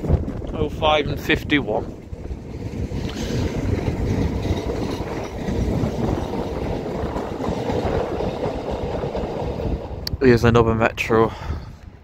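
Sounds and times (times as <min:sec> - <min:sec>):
train wheels on rails: 0:00.0 - 0:10.2.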